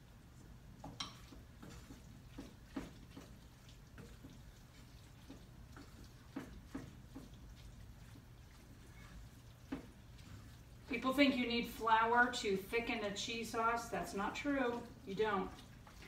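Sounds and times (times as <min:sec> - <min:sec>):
wooden spoon scraping a pan: 0:00.2 - 0:16.0.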